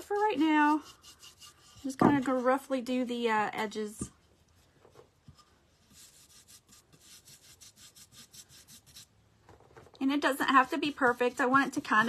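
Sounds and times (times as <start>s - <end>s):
paintbrush stroking wood: 0.0s - 3.0s, 4.1s - 9.1s, 10.0s - 12.0s.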